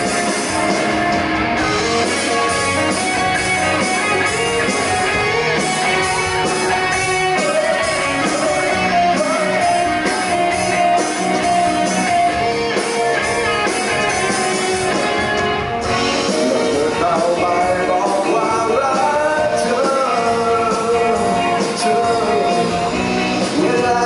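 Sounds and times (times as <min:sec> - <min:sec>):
bass guitar: 0:00.0 - 0:24.0
drums: 0:00.0 - 0:24.0
electric guitar lead line: 0:00.0 - 0:24.0.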